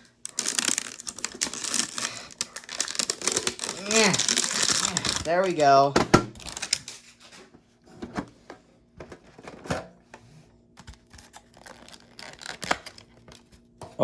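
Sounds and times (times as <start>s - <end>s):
cardboard and plastic packaging rustling: 0.0s - 8.4s, 10.8s - 14.0s.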